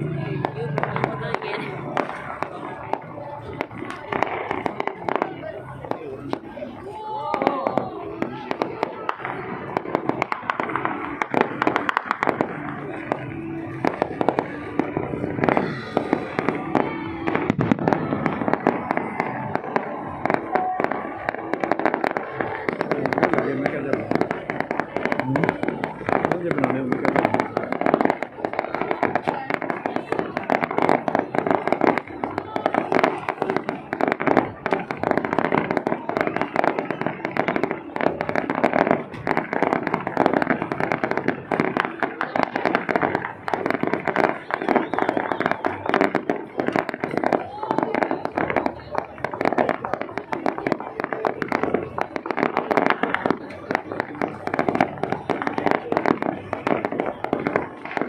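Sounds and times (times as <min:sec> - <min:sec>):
crowd voices: 0:00.0 - 0:58.0
fireworks bangs and crackles: 0:00.0 - 0:58.0.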